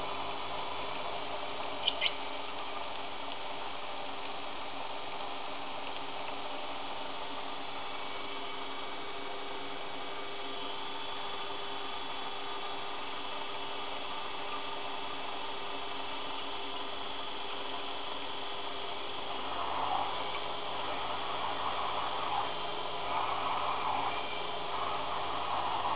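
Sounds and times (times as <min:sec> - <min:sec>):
mini lathe humming and whining: 0:00.0 - 0:25.9.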